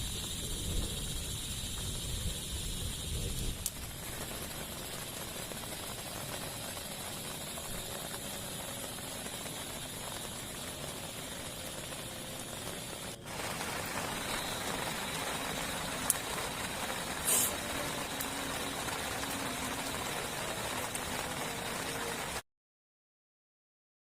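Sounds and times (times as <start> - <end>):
heavy rain: 0.0 - 22.4.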